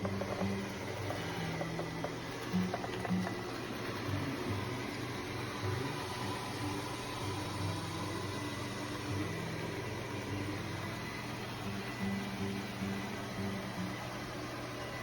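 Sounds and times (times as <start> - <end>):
robot vacuum motor hum: 0.0 - 15.0.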